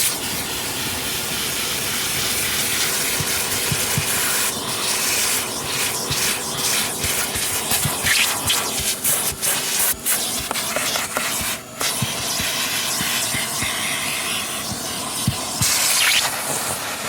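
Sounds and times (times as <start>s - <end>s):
vacuum cleaner sucking: 0.0s - 17.0s.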